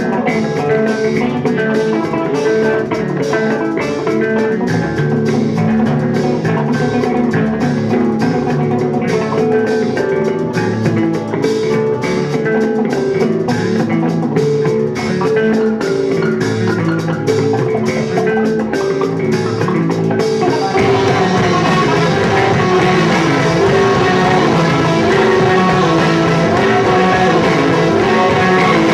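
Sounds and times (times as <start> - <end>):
bass guitar: 0.0 - 28.9
drum kit and cymbals: 0.0 - 28.9
electric guitar: 0.0 - 28.9.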